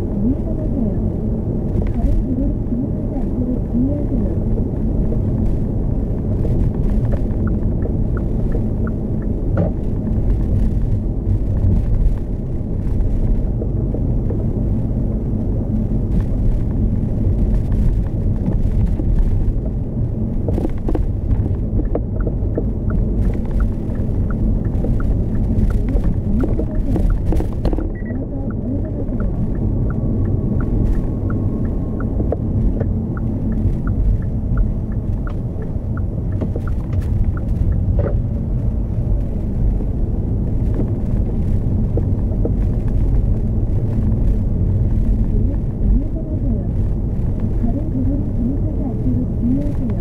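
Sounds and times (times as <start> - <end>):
road and tyre rumble inside car: 0.0 - 50.0.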